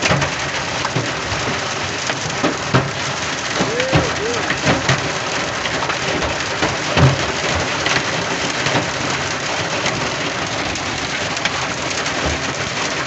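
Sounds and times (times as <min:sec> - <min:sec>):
hail on truck roof: 0:00.0 - 0:13.0.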